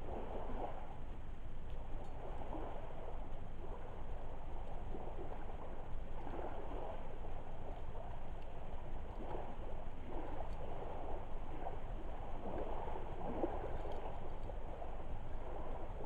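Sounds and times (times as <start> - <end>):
water lapping at shore: 0.0 - 16.0.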